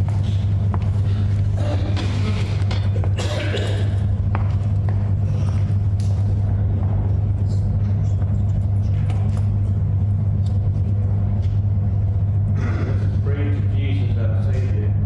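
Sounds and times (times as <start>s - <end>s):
loud steady low hum: 0.0s - 15.0s.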